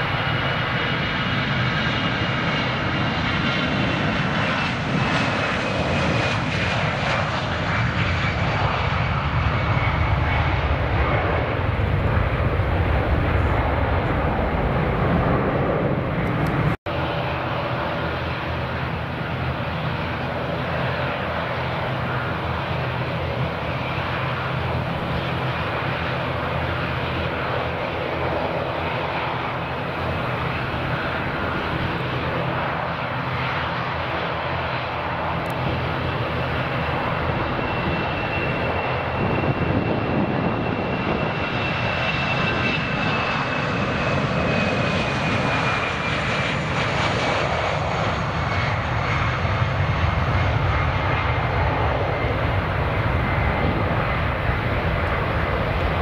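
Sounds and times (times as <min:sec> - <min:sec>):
high engine whine: 0:00.0 - 0:56.0
jet engines roaring: 0:00.0 - 0:56.0.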